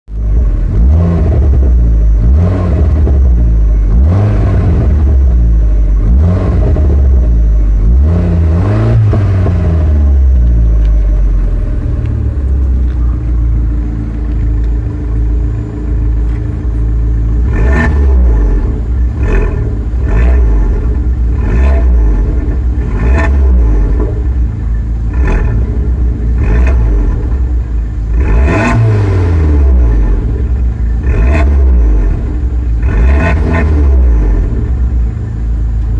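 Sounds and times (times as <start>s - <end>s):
car exhaust revving: 0.1s - 35.9s
exhaust crackles: 0.1s - 35.9s.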